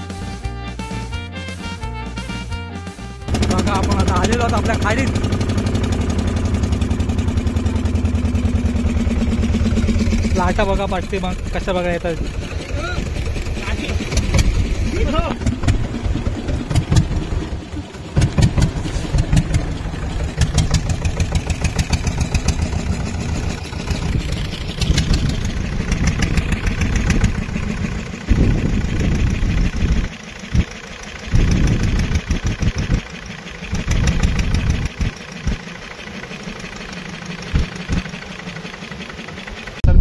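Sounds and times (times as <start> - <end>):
boat engine pulsing: 3.2 - 40.0.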